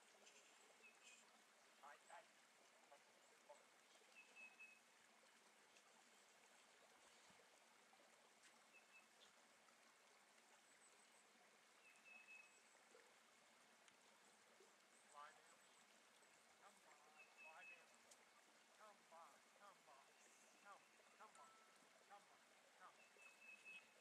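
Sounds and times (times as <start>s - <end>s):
creek trickling: 0.0s - 24.0s.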